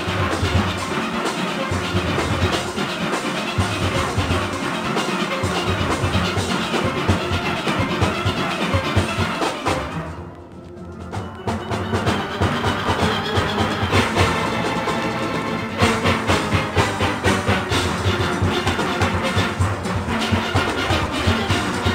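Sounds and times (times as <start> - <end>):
drums and percussion: 0.0 - 21.9
steel pans playing: 0.0 - 21.9.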